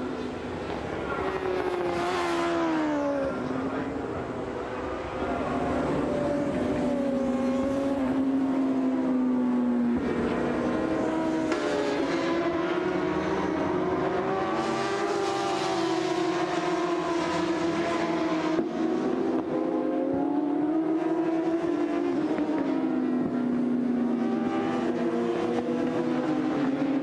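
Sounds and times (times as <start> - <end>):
racing motorcycles at high revs: 0.6 - 27.0.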